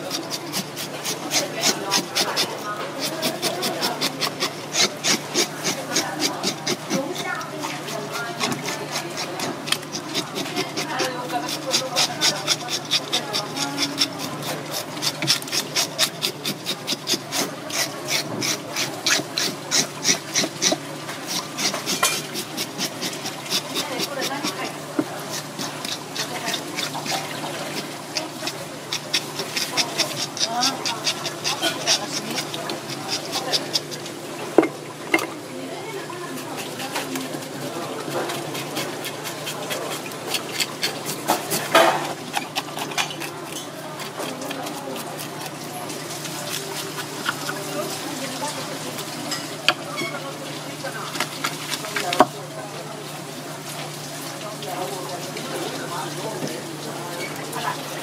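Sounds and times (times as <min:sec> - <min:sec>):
fish scaler scraping scales: 0:00.0 - 0:52.4
water running from a hose: 0:00.0 - 0:58.0.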